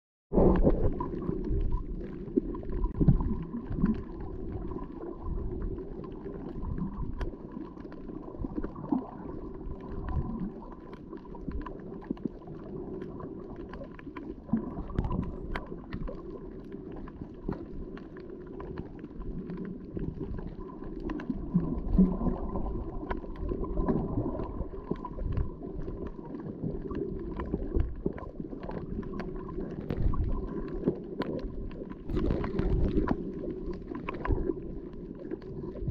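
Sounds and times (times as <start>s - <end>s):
muffled underwater rumble: 0.3s - 35.9s.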